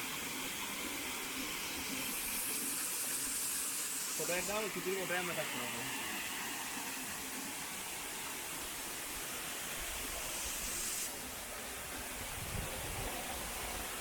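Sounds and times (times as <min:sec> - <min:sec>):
running water in a stream: 0:00.0 - 0:14.0.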